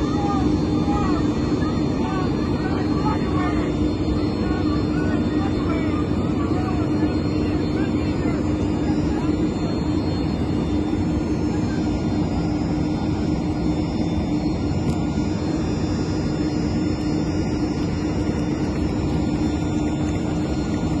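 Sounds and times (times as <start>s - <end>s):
airport ramp machinery drone: 0.0s - 21.0s.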